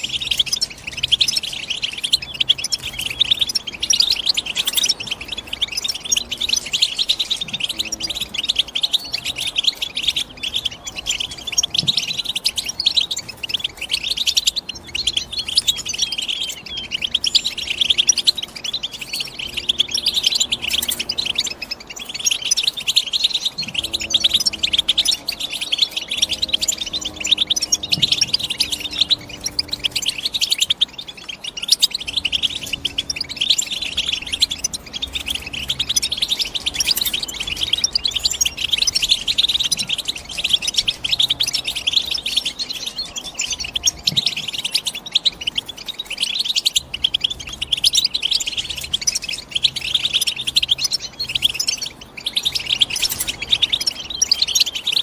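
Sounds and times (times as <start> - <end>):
bird twittering and trilling: 0.0 - 55.0.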